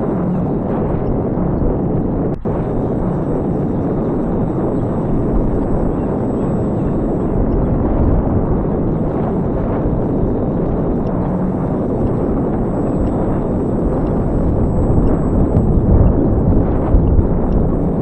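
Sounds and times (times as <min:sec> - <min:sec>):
faint high whine: 0:00.0 - 0:18.0
wind buffeting microphone: 0:00.0 - 0:18.0.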